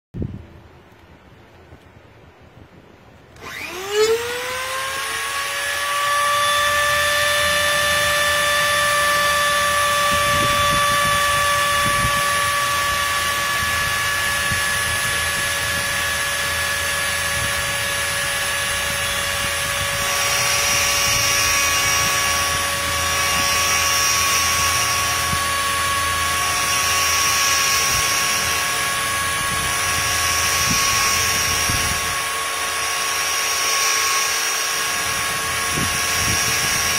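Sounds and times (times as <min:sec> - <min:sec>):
rotary tool high whine: 0:03.3 - 0:36.9
grinding hiss: 0:05.0 - 0:36.9.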